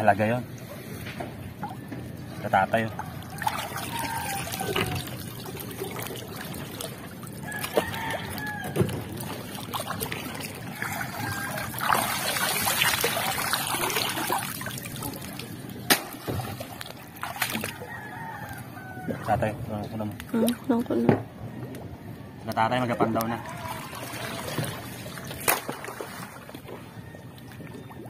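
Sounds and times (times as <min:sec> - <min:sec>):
water sloshing and splashing: 0:00.0 - 0:28.0.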